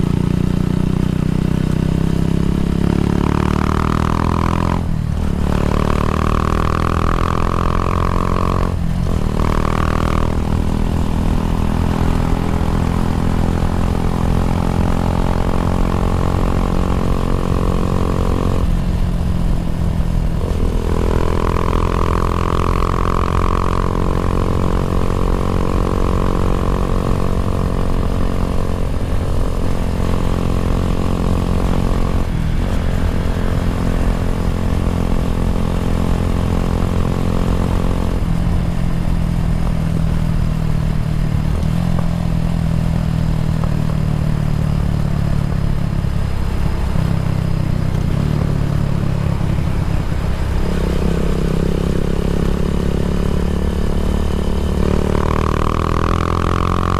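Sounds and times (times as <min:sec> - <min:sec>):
motorcycle engine with racing exhaust: 0:00.0 - 0:56.9.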